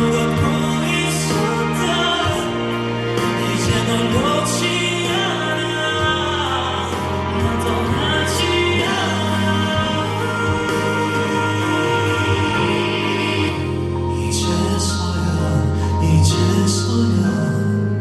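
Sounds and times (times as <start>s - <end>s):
low bass line: 0.0s - 18.0s
person singing: 0.0s - 18.0s
pop ballad over loudspeakers: 0.0s - 18.0s.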